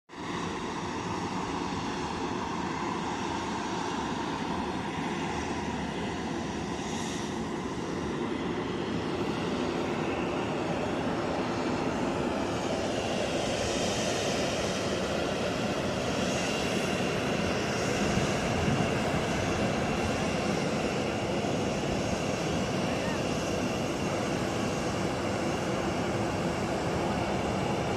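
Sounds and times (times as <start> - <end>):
airliner engines running: 0.1 - 27.9.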